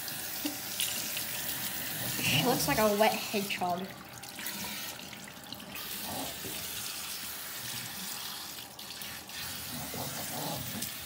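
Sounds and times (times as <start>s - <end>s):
faucet sprayer water splashing: 0.0s - 11.0s.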